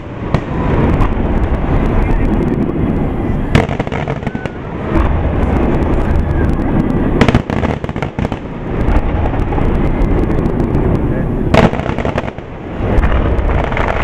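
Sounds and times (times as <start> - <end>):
fireworks booming: 0.0 - 14.0
fireworks sharp cracks: 0.0 - 14.0.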